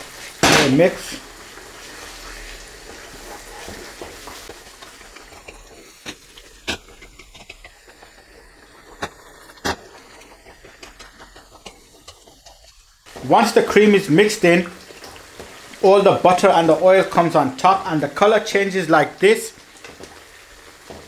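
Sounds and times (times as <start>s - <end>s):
curry sizzling in a pan: 0.0s - 21.0s
spoon stirring in a pan: 0.0s - 21.0s.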